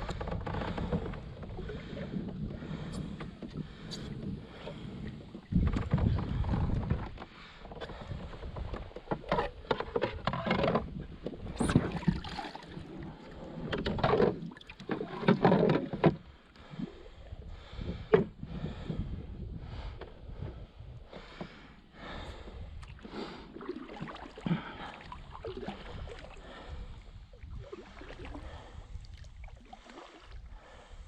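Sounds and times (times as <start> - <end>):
kayak paddle swishing and dripping: 0.0 - 18.3, 20.9 - 31.0.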